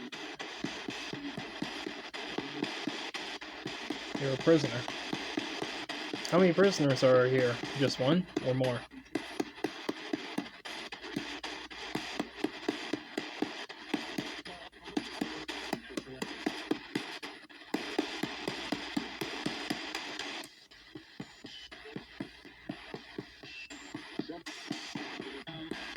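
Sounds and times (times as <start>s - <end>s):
radio static with rapid clicks: 0.0s - 25.9s
snatches of radio broadcast: 0.0s - 25.9s.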